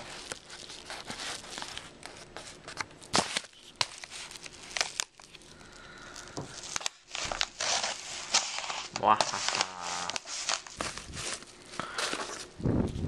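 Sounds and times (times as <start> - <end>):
paper mailer crinkling and tearing: 0.0 - 12.6.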